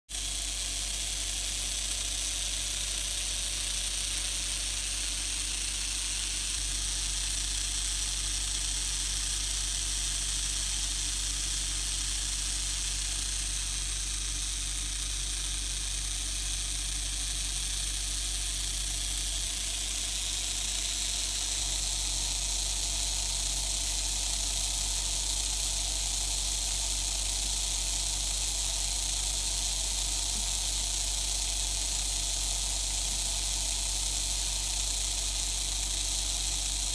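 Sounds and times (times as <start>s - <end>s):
model train motor whirring: 0.1s - 36.9s.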